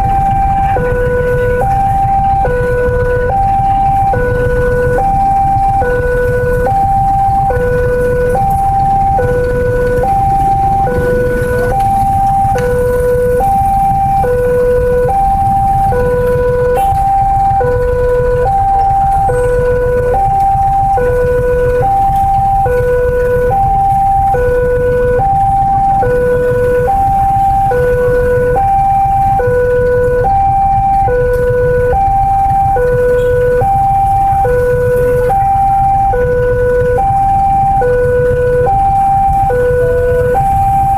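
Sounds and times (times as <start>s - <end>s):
level crossing alarm two-tone: 0.0s - 40.9s
motorcycle engines idling: 0.0s - 40.9s.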